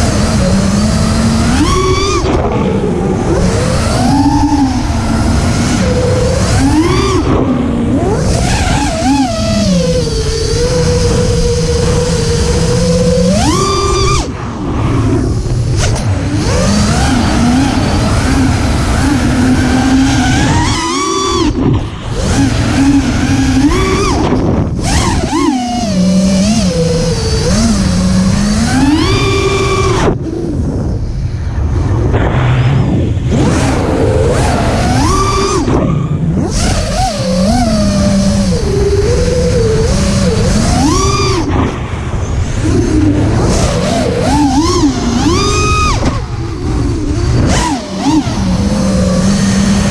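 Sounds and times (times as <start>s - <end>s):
quadcopter motors whining: 0.0s - 49.9s
wind and prop wash rushing: 0.0s - 49.9s.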